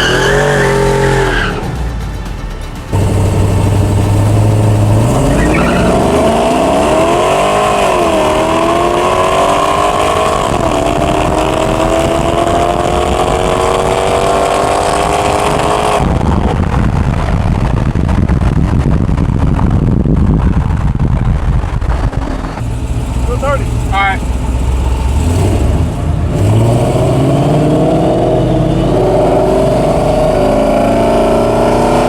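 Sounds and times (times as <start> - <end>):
pickup truck engine accelerating: 0.0 - 32.0
rushing noise: 0.0 - 32.0.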